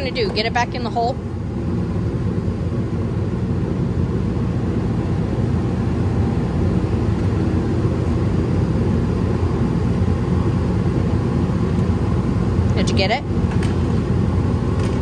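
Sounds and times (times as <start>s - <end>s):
low machine drone: 0.0s - 15.0s.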